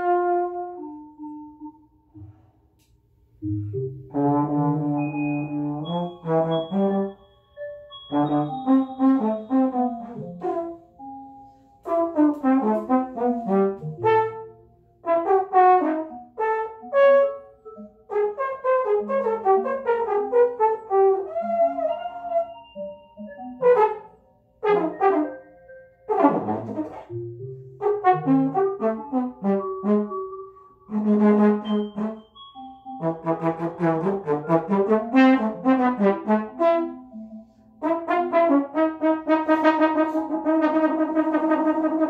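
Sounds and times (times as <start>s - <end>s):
trombone improvising: 0.0s - 1.9s, 3.5s - 7.3s, 8.1s - 22.6s, 23.6s - 25.5s, 26.1s - 42.0s
electronic accompaniment: 0.0s - 42.0s.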